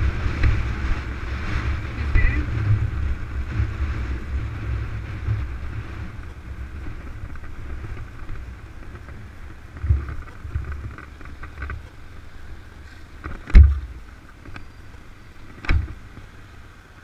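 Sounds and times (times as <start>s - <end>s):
motorcycle running: 0.0s - 17.0s
wind buffeting microphone: 0.0s - 17.0s.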